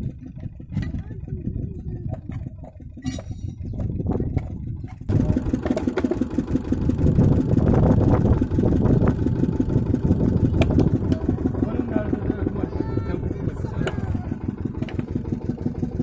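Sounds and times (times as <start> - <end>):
engine running with low pulse: 0.0 - 16.0.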